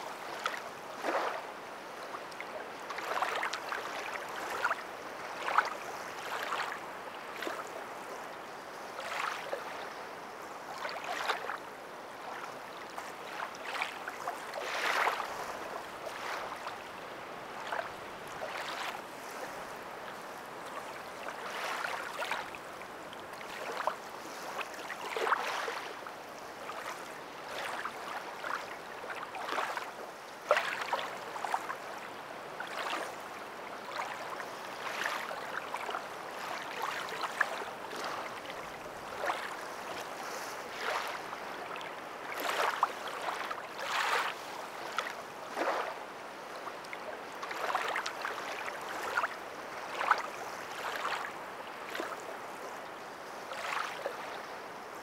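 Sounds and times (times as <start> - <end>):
lake waves lapping: 0.0 - 55.0
water splashes: 0.0 - 55.0.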